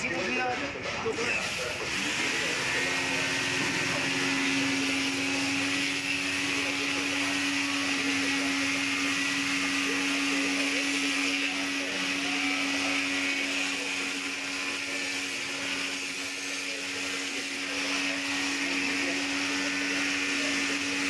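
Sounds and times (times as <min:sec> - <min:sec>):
machine motor humming: 0:00.0 - 0:21.0.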